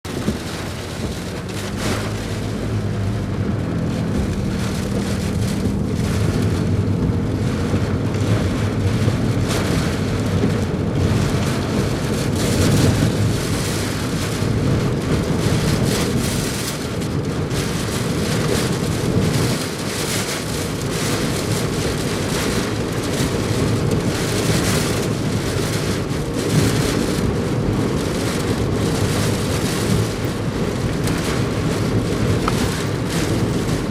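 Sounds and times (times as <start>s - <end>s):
heavy rain: 0.0s - 33.9s
strong wind: 0.0s - 33.9s.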